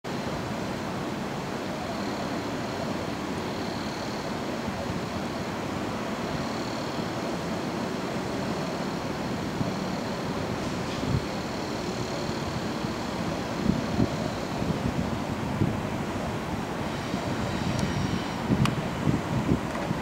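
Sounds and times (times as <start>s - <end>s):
faint high-pitched whine: 0.1s - 20.0s
diesel locomotives rumbling: 0.3s - 20.0s.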